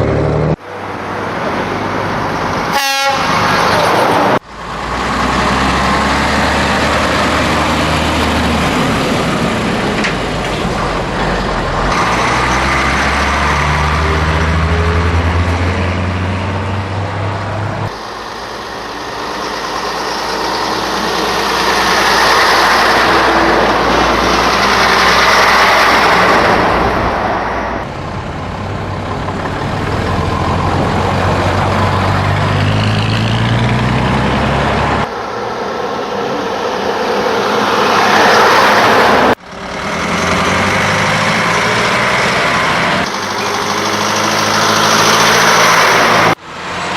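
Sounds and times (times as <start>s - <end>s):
truck diesel engine running: 4.4s - 33.0s, 33.6s - 46.9s.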